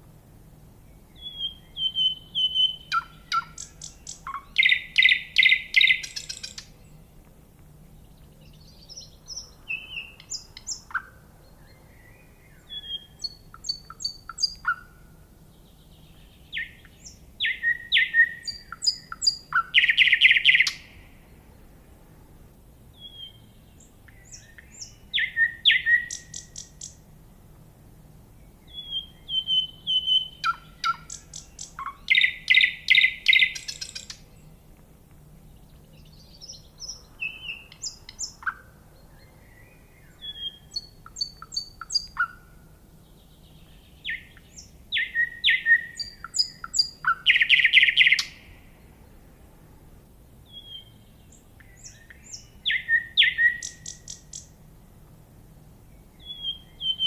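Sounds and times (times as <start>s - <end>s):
songbird chirps and trills: 0.0s - 57.0s.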